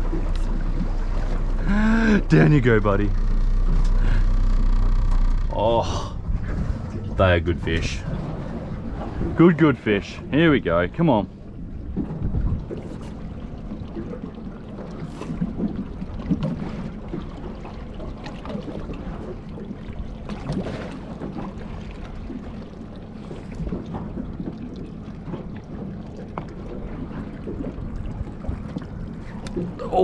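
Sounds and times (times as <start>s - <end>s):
water around a boat: 0.0s - 30.0s
wind: 0.0s - 30.0s.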